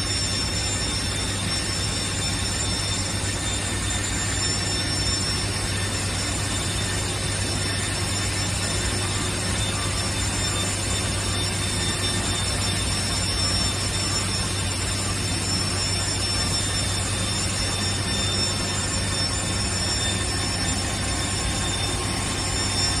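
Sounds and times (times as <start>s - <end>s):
low mechanical hum: 0.0s - 23.0s
thin high whining tones: 0.0s - 23.0s.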